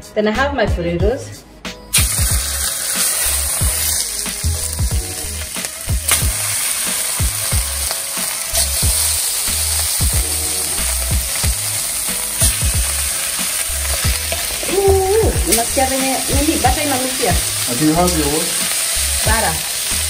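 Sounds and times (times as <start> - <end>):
potatoes sizzling in butter: 1.9 - 20.0.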